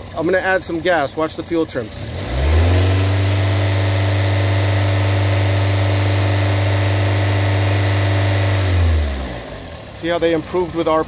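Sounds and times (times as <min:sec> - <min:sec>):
car engine revving: 0:01.4 - 0:10.4.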